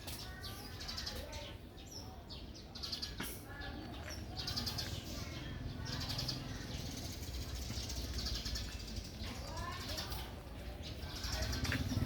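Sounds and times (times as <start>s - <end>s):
animals chirping high-pitched: 0.0s - 12.0s.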